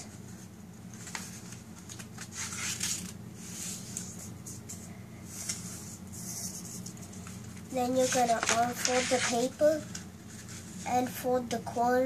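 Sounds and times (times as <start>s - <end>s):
paper rustling and creasing: 0.1s - 11.1s.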